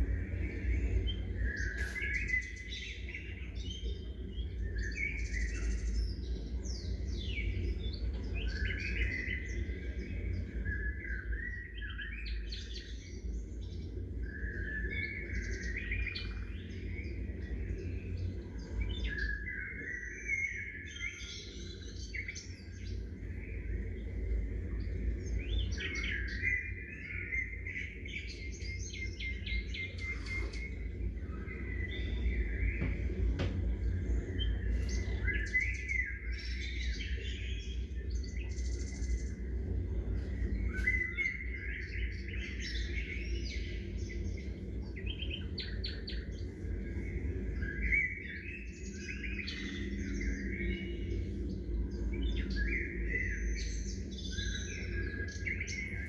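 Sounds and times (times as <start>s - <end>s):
steady low rumble: 0.0s - 20.1s, 20.9s - 56.0s
songbirds chirping: 0.0s - 56.0s.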